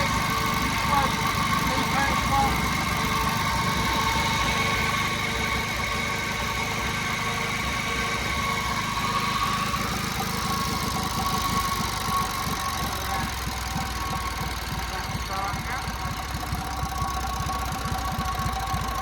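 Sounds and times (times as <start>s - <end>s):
generator high whine: 0.0s - 19.0s
stationary engine running: 0.0s - 19.0s.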